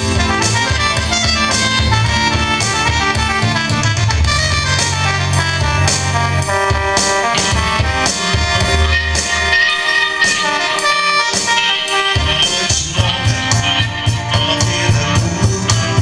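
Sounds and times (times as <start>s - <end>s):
bass line: 0.0s - 16.0s
drum beat: 0.0s - 16.0s
electric guitar: 0.0s - 16.0s
electronic keyboard: 0.0s - 16.0s.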